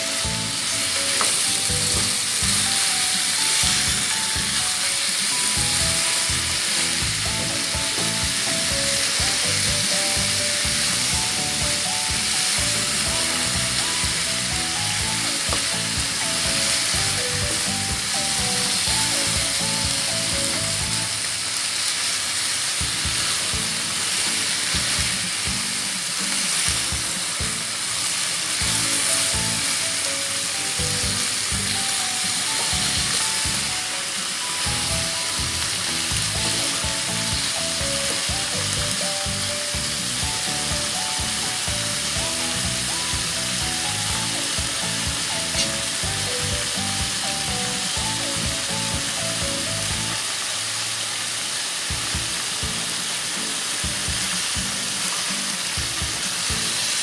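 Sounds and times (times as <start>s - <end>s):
meat sizzling in a wok: 0.0s - 57.0s.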